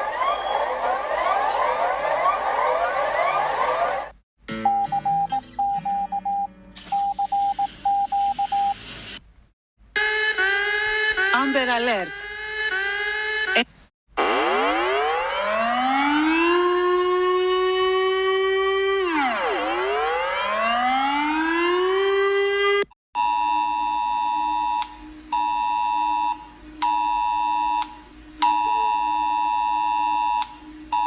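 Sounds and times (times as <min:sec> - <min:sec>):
rising warning siren: 0:00.0 - 0:04.2, 0:10.0 - 0:31.0.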